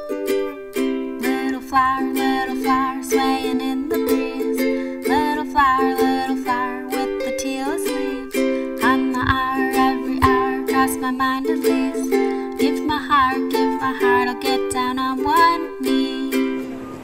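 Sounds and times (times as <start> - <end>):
ukulele strumming: 0.0 - 17.0.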